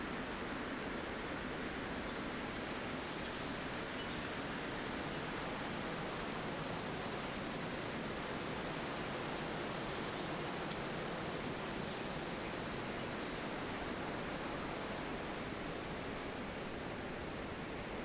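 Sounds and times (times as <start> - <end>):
wind through trees: 0.0 - 18.0.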